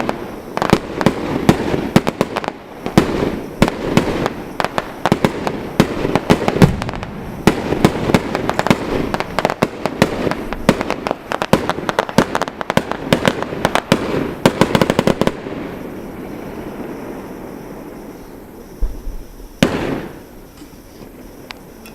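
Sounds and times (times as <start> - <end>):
fireworks cracks and bangs: 0.0 - 17.8, 18.7 - 21.5.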